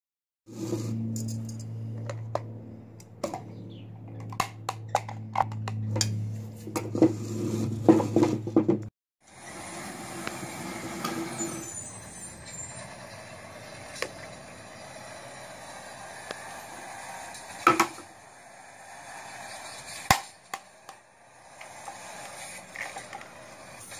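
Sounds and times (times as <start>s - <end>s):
truck-like engine hum: 0.5s - 23.9s.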